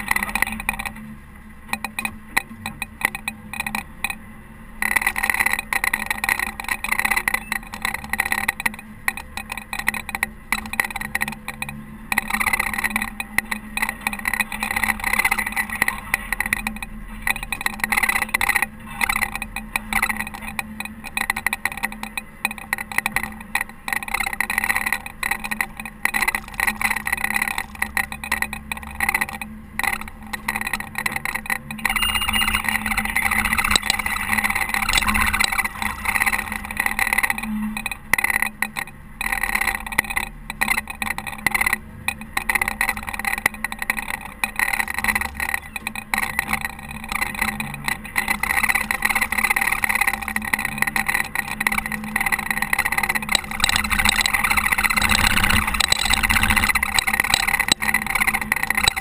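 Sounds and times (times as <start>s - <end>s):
engine hum: 0.0s - 59.0s.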